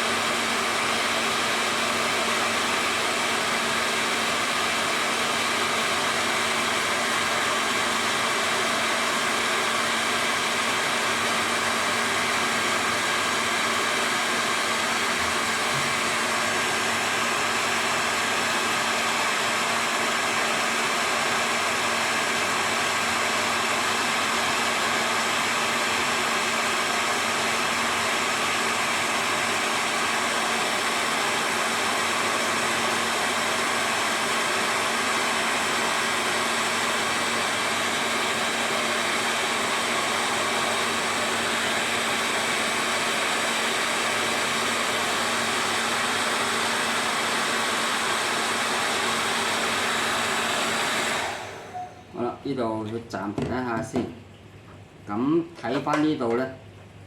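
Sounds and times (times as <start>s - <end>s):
hair dryer running: 0.0s - 52.3s.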